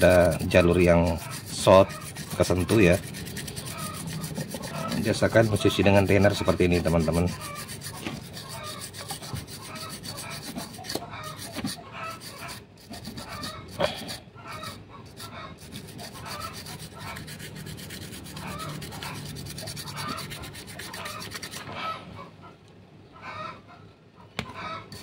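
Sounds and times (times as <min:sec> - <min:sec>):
brush scrubbing circuit board: 0:00.0 - 0:21.7.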